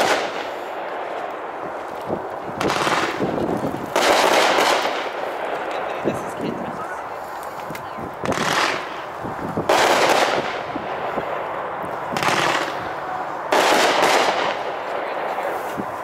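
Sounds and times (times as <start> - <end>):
firework bursts: 0.0 - 16.0.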